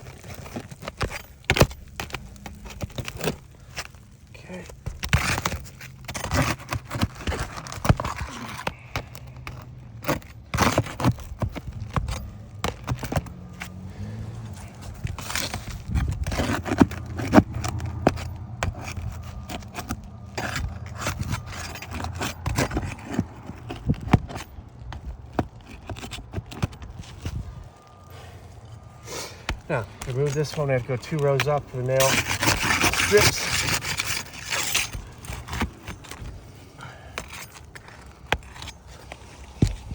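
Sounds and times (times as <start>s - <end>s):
shingles being pried loose: 0.0s - 39.9s.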